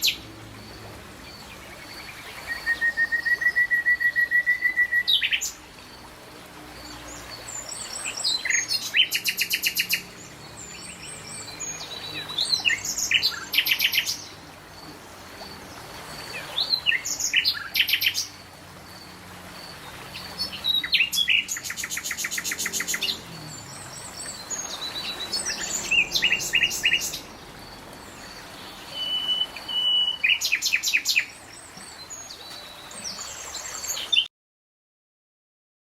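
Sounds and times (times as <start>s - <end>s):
songbirds trilling and chirping: 0.0s - 34.3s.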